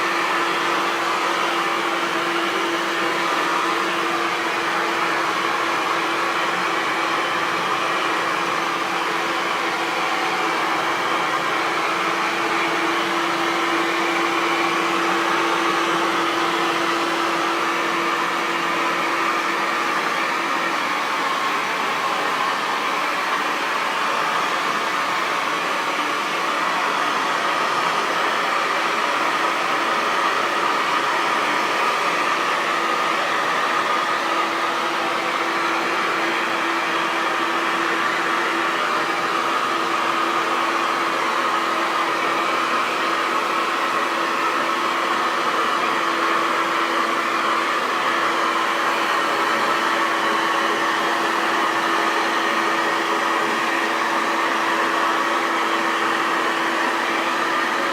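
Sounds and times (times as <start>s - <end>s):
hair dryer blowing: 0.0s - 57.9s.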